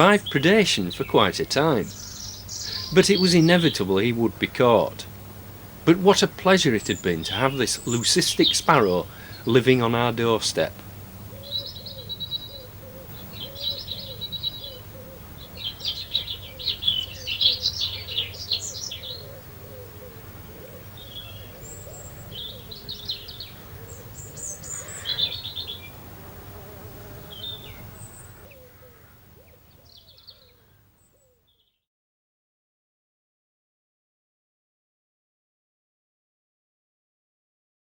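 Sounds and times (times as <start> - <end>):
birds chirping and singing: 0.0 - 31.7.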